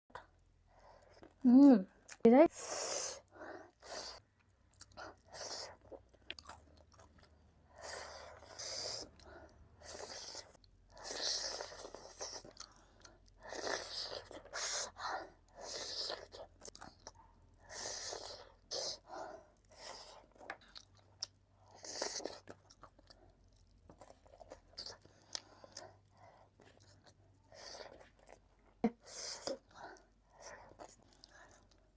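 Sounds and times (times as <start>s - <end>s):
crunchy snack being chewed: 3.8s - 31.9s.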